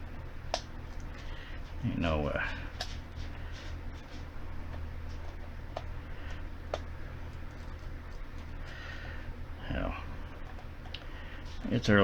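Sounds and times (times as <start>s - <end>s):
low room hum with hiss: 0.0s - 12.0s.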